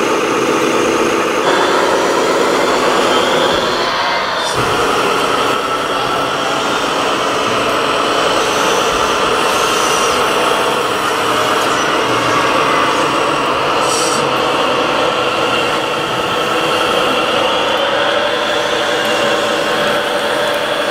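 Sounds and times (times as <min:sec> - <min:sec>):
model vehicle engine drone and whine: 0:00.0 - 0:20.9.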